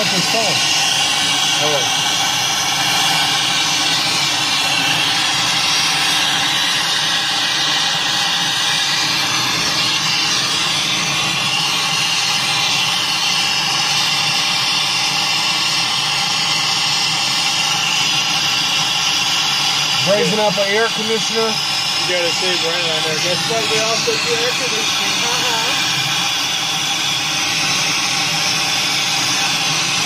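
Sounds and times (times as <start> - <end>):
steady hum: 0.0 - 30.0
torch flame hissing: 0.0 - 30.0.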